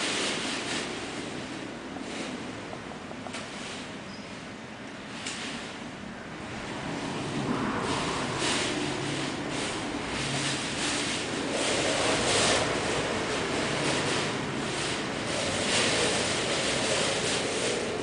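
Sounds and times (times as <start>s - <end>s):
wind gusting: 0.0s - 18.0s.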